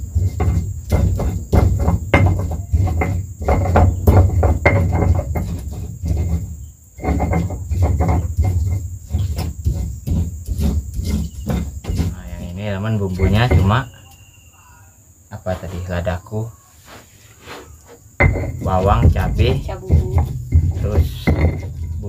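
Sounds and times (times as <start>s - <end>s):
rapid sharp knocking: 0.0s - 13.9s, 18.2s - 22.0s
crickets trilling: 0.0s - 22.0s.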